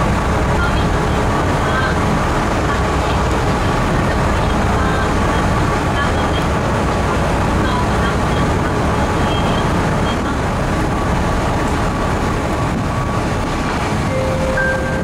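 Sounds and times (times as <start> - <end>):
ferry engine rumble: 0.0 - 15.0
water sweeping past hull: 0.0 - 15.0
wind on microphone: 0.0 - 15.0.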